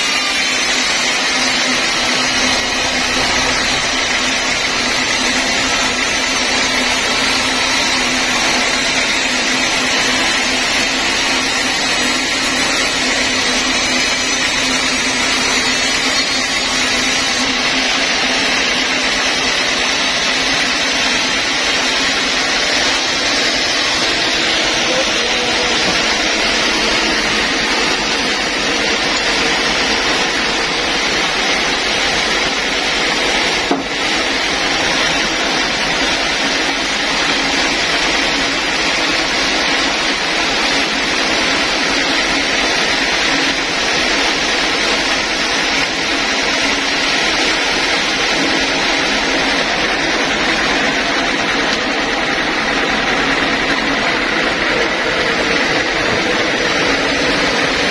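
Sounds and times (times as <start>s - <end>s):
band sawmill cutting log: 0.0s - 57.9s.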